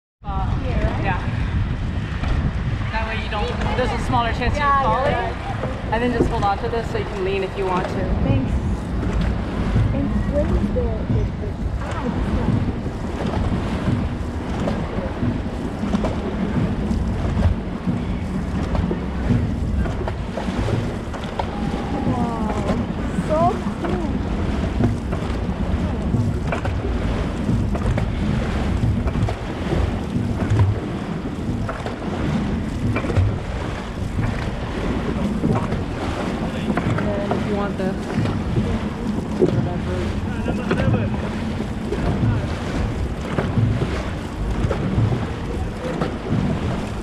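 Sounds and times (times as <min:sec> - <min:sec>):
water washing against boat: 0:00.2 - 0:47.0
wind rumbling on microphone: 0:00.2 - 0:47.0.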